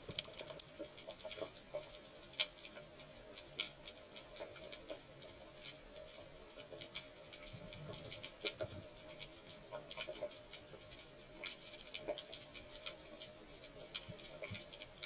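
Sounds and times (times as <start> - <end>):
snapping shrimp crackle underwater: 0.0 - 15.0.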